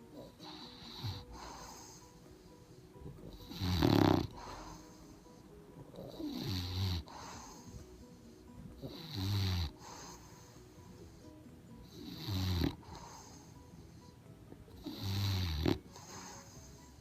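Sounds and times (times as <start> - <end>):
dog snoring: 0.0 - 14.1, 14.7 - 17.0
dog breathing: 0.0 - 17.0.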